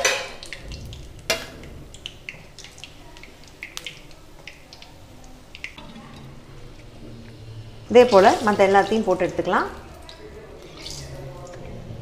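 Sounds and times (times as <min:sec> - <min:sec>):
hot oil crackling and popping: 0:00.0 - 0:06.2, 0:06.8 - 0:12.0.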